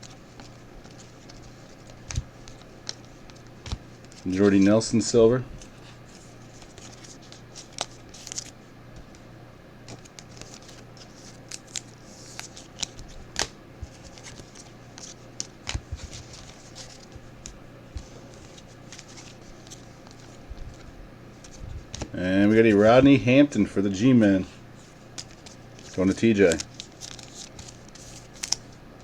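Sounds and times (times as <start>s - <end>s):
cards sliding and rustling: 0.0s - 4.8s, 5.6s - 9.2s, 9.8s - 23.0s, 24.8s - 28.8s.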